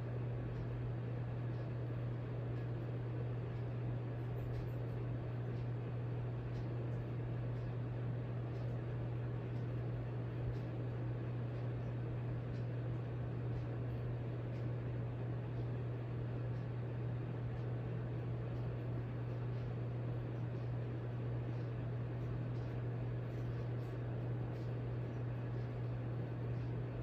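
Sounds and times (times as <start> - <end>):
ceiling fan motor hum: 0.0 - 27.0.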